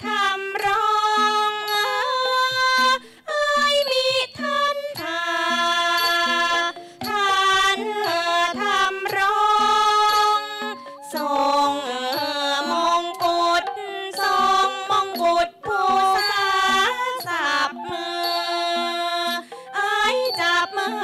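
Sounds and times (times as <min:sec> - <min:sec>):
person singing sliding vocal line: 0:00.0 - 0:21.0
sustained instrumental notes: 0:00.1 - 0:21.0.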